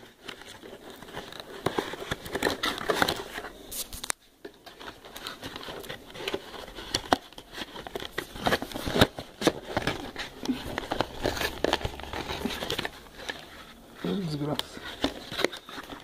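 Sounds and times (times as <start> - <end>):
cardboard rustling and scraping: 0.0 - 16.0.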